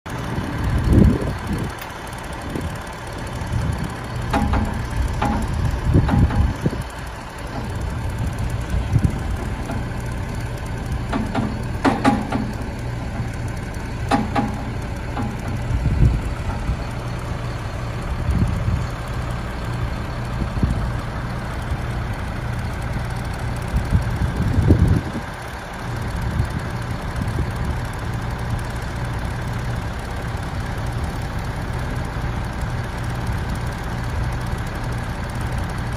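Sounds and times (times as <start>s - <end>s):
truck engine running: 0.0s - 35.9s.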